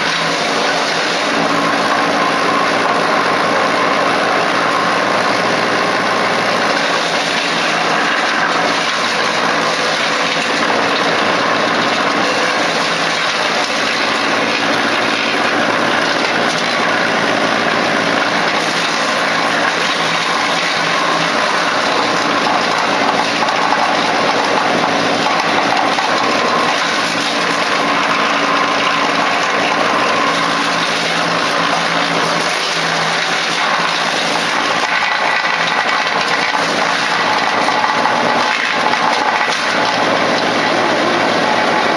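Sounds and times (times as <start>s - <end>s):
wood chipper drone: 0.0s - 41.9s.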